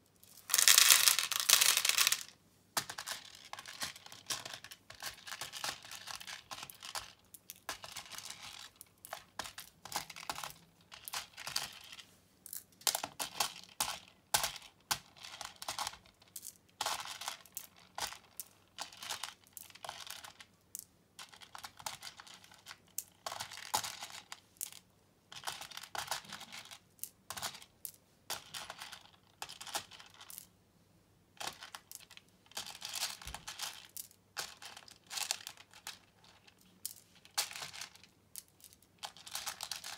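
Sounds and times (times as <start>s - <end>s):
plastic beads clicking and rattling: 0.2s - 30.5s, 31.4s - 39.9s.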